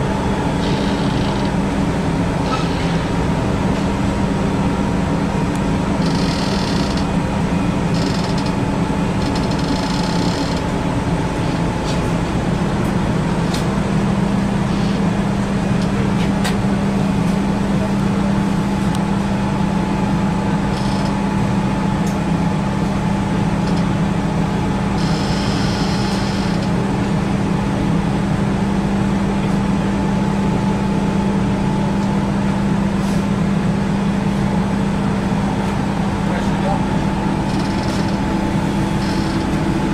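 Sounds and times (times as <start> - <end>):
machinery low drone: 0.0 - 39.9.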